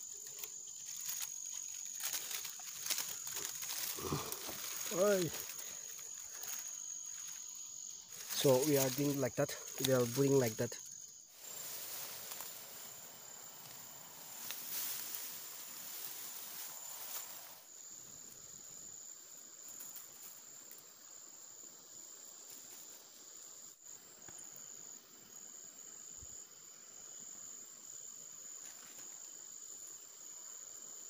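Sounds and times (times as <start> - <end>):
grass and leaves rustling: 0.0 - 21.3, 22.2 - 26.1, 28.4 - 30.5
insects chirring trill: 0.0 - 31.0.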